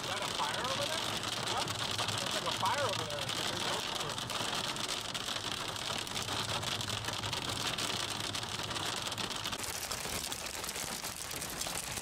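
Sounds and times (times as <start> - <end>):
rain and hail hitting a car: 0.0 - 12.0.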